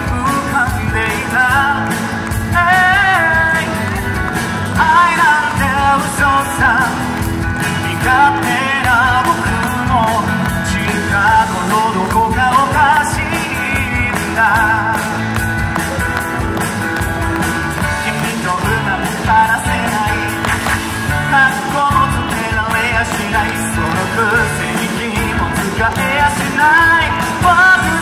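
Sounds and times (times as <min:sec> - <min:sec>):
man singing into microphone: 0:00.0 - 0:16.2, 0:17.7 - 0:28.0
amplified instrumental backing music: 0:00.0 - 0:28.0.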